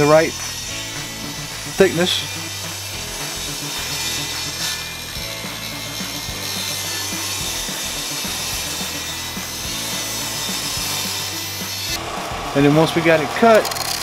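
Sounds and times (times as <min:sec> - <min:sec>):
table saw cutting wood: 0:00.0 - 0:14.0.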